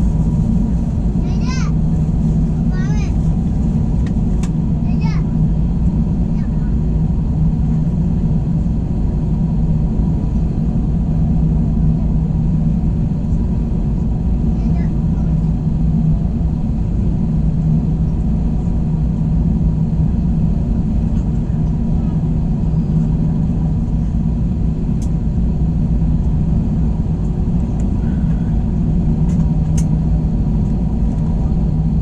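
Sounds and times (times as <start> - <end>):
airplane cabin engine drone: 0.0 - 32.0.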